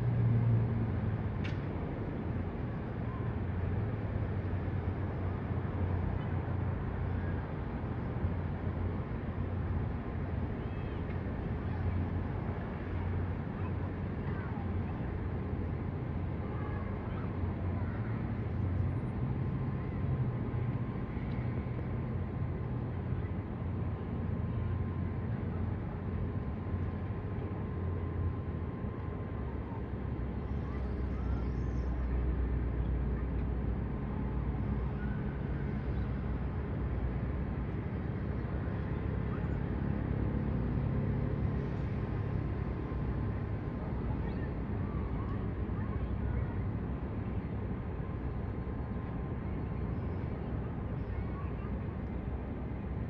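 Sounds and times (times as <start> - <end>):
low rumble of distant engines: 0.0 - 53.0
outdoor noise: 0.0 - 53.0.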